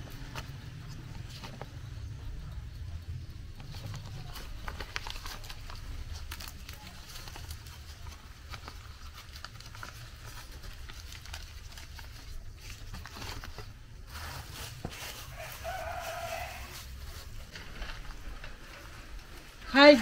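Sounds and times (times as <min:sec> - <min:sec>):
leaf crackling and rustling: 0:03.2 - 0:20.0.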